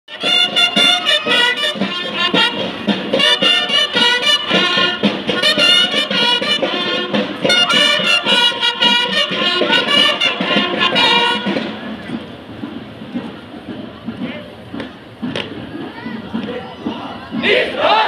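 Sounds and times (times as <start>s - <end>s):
marching band playing: 0.1s - 18.0s.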